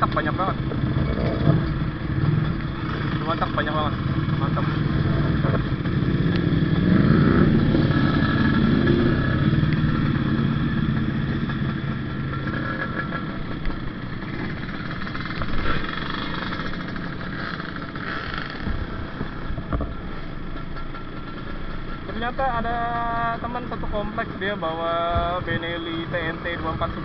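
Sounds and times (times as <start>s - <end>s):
hum of other motorcycles: 0.0s - 27.0s
motorcycle engine revving and idling: 0.0s - 27.0s.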